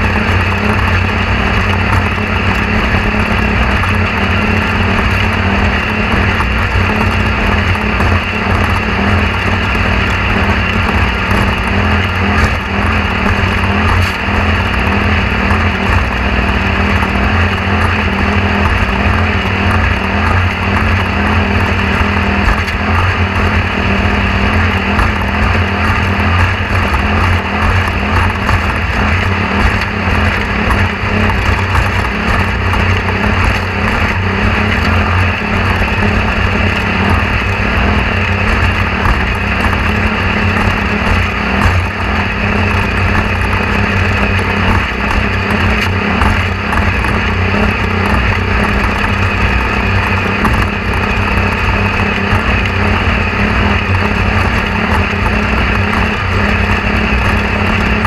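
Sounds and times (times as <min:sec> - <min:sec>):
mechanical drone with rushing noise: 0:00.0 - 0:58.0.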